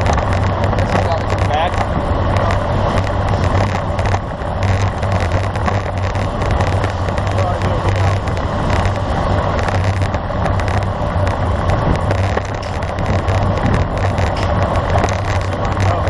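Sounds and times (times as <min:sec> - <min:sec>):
bicycle road noise: 0:00.0 - 0:16.0
wind rumble on microphone: 0:00.0 - 0:16.0.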